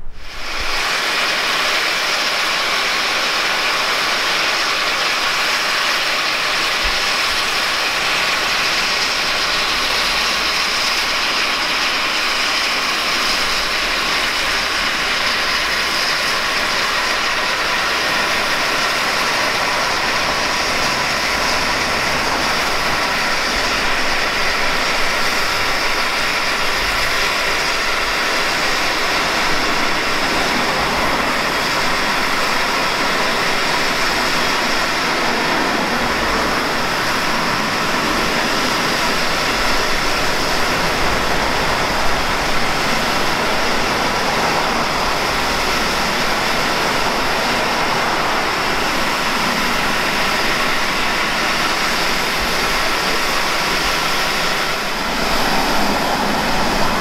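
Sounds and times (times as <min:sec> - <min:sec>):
low locomotive rumbling: 0:00.0 - 0:57.0
steam hissing: 0:00.0 - 0:57.0.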